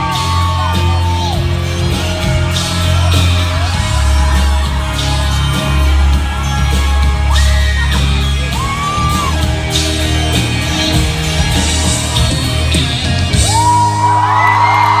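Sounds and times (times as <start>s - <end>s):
fans screaming: 0.0s - 15.0s
live pop-rock band: 0.0s - 15.0s.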